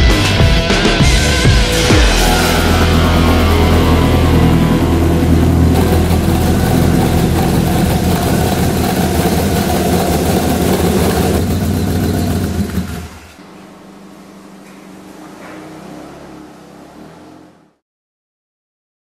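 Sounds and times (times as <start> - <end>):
car engine running: 0.0 - 17.8.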